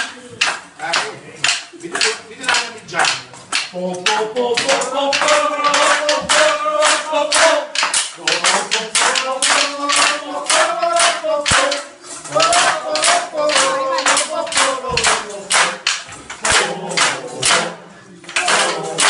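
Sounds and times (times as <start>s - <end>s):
group singing folk song: 0.0s - 19.0s
wooden clappers clacking: 0.0s - 19.0s.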